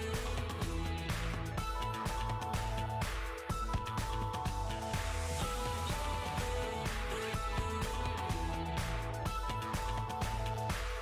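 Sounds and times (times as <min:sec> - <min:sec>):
instrumental music with bass: 0:00.0 - 0:11.0.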